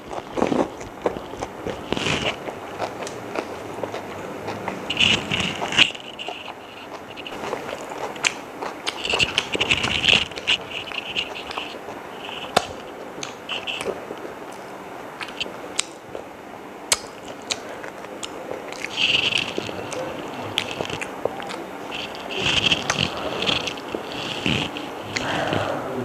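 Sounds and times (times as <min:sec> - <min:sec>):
person chewing food: 0:00.0 - 0:25.8
short crackly bursts: 0:00.0 - 0:25.8
sharp mouth clicks: 0:00.1 - 0:14.0, 0:15.2 - 0:16.0, 0:16.9 - 0:25.8.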